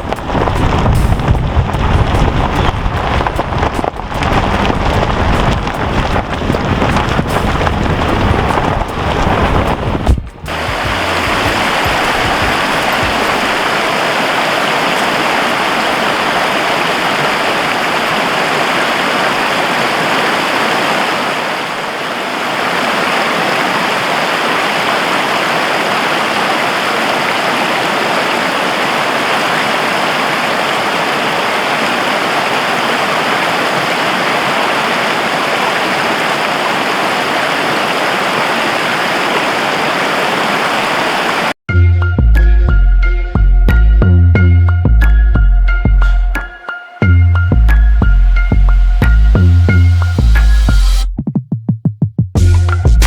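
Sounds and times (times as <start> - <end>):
running water rushing: 0.0 - 41.6, 46.4 - 51.0.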